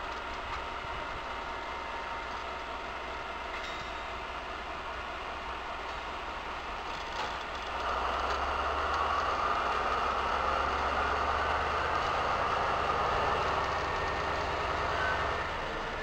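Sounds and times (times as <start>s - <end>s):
diesel locomotive engine running: 0.0s - 16.0s.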